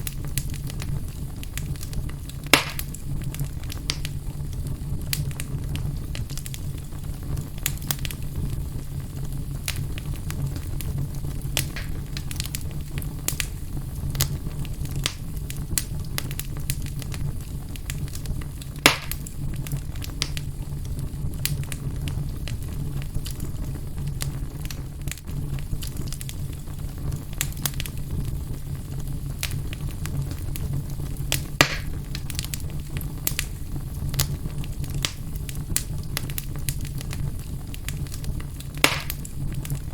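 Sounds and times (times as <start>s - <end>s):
fire crackling in a fireplace: 0.0s - 39.9s
loud fire pops: 0.0s - 39.9s.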